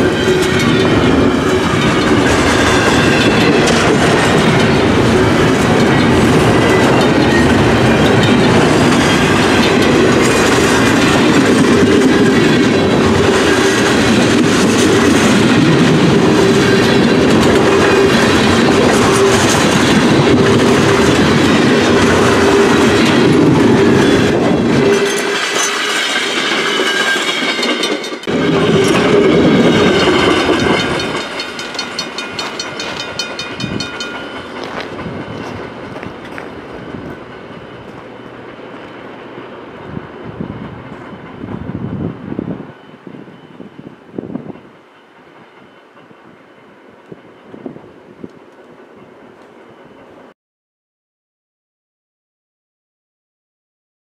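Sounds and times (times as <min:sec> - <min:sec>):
freight train wheels clicking on rails: 0:00.0 - 0:50.3.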